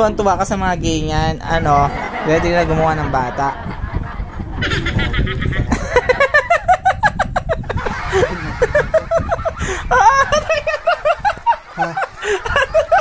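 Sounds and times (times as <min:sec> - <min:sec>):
person laughing hard: 0:02.0 - 0:13.0.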